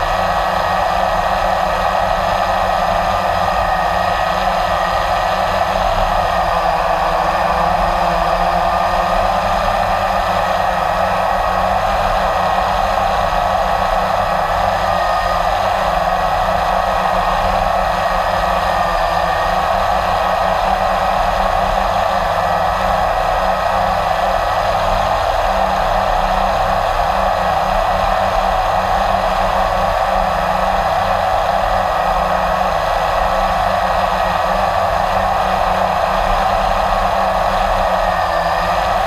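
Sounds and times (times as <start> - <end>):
quadcopter propellers whirring: 0.0 - 39.0.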